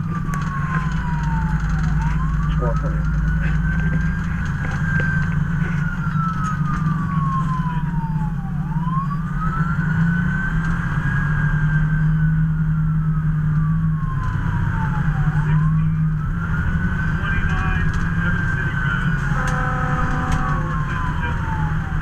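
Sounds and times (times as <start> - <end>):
fire engine siren wailing: 0.0 - 22.0
low engine drone: 0.0 - 22.0.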